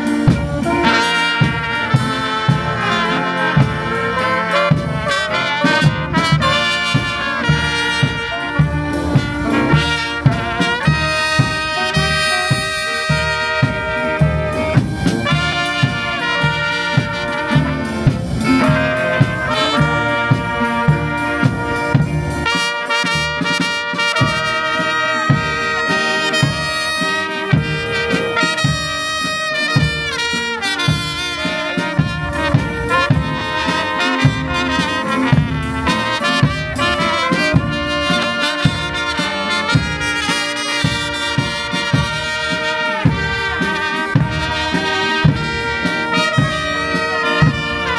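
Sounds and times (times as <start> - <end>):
brass band playing: 0.0 - 47.9.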